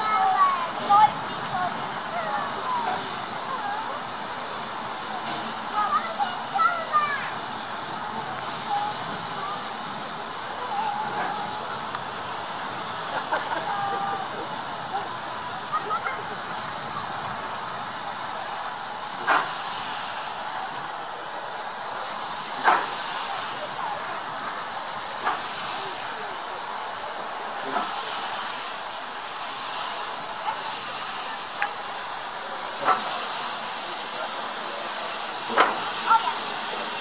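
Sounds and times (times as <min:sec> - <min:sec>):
steam engine hissing: 0:00.0 - 0:37.0.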